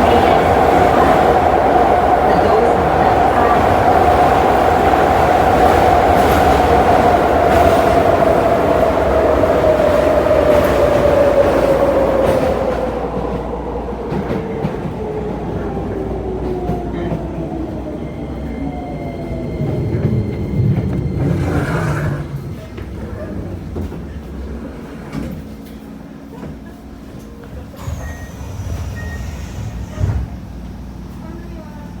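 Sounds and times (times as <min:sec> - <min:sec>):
rail and wheel rumble: 0:00.0 - 0:32.0.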